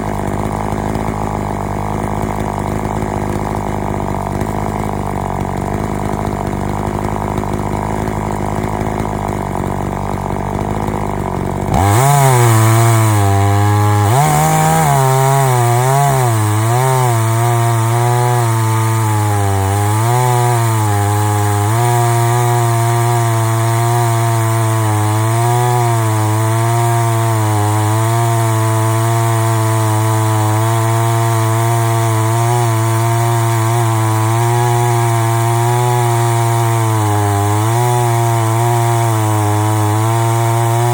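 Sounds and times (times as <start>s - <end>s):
chainsaw cutting through log: 0.0s - 40.9s.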